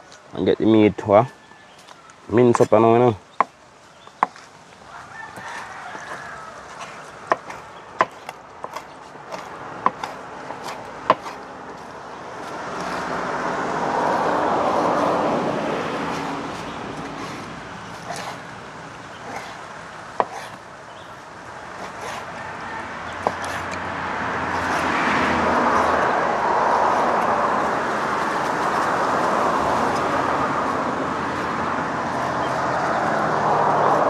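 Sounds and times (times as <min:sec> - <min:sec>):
broad rush of noise: 0:00.0 - 0:34.0.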